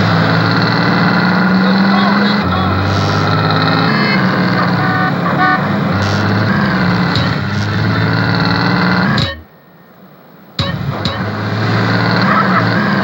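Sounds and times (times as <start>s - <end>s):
car engine running: 0.0s - 9.5s, 10.6s - 13.0s.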